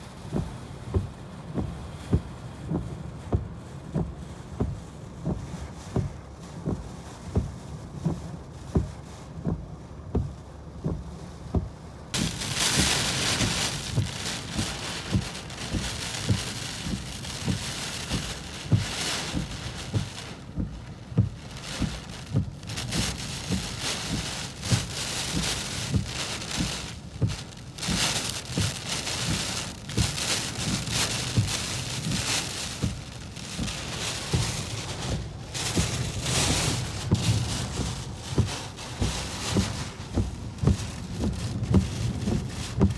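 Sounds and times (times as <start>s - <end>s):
heavy rain beating on a car: 0.0s - 42.9s
short low thuds: 0.2s - 42.9s.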